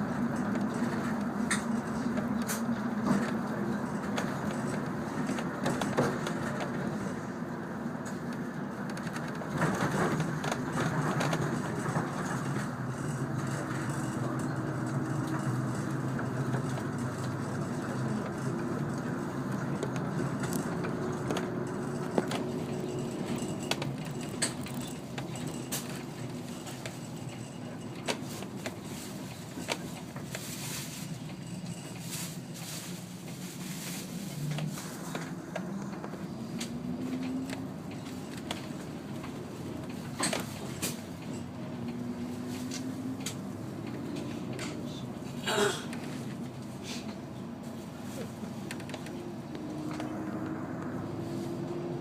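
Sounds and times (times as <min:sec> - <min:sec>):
bus engine and road noise: 0:00.0 - 0:52.0.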